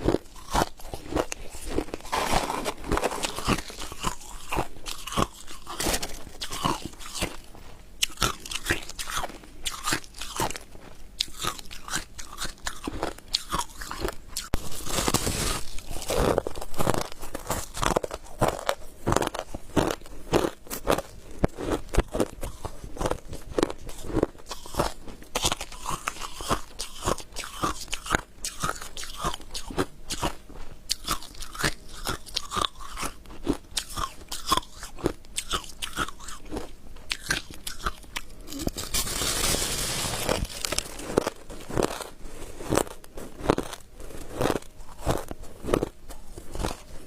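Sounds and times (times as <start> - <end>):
crunching and chewing frost ice: 0.0 - 47.0.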